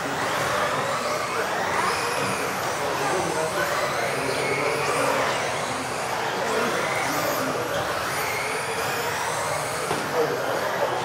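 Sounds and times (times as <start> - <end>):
high-pitched electric motor whines: 0.0 - 11.0.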